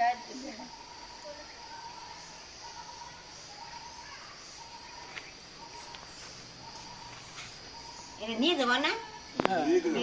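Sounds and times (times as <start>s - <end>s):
insects droning high: 0.0s - 10.0s.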